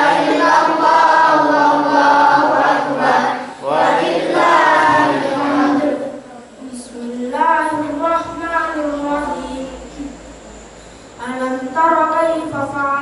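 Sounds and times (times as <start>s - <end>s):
boy chanting melodic recitation: 0.0s - 13.0s.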